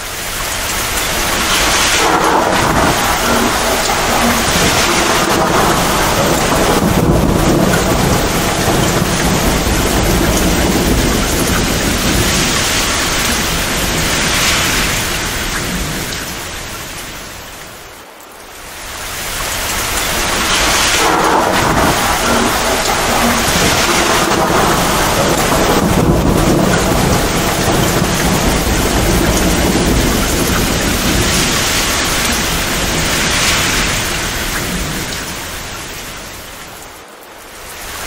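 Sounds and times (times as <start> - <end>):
low rolling thunder: 0.0 - 17.9, 18.8 - 37.0
torrential rain pouring: 0.0 - 38.0.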